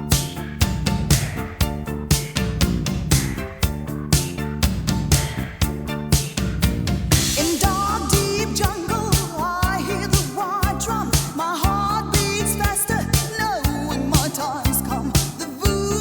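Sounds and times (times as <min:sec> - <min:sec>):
music with beat and bass: 0:00.0 - 0:16.0.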